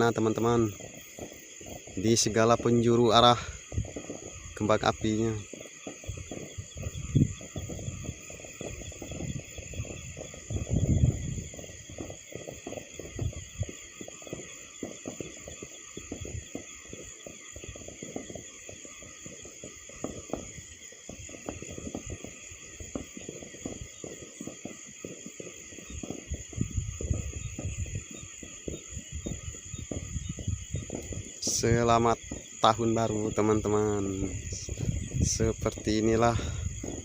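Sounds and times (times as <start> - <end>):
crickets chirring: 0.0 - 37.0
distant fireworks banging and popping: 0.0 - 37.0.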